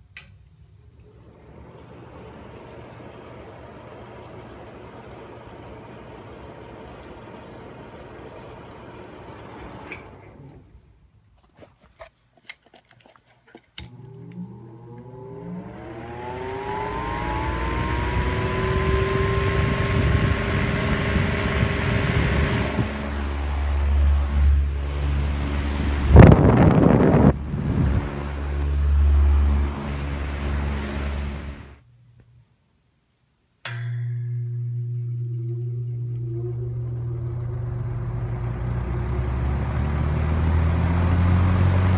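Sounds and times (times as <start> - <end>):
electric fan whirring: 0.0 - 11.0, 13.8 - 32.2, 33.6 - 41.9
fan motor whine: 0.6 - 10.8, 13.8 - 31.9, 33.6 - 41.9.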